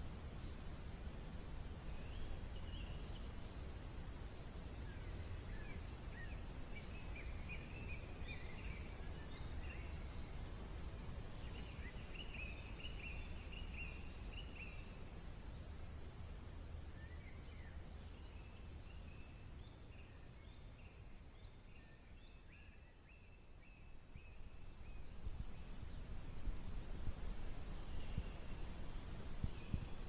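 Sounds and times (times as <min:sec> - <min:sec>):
songbird chirping: 0:01.9 - 0:30.0.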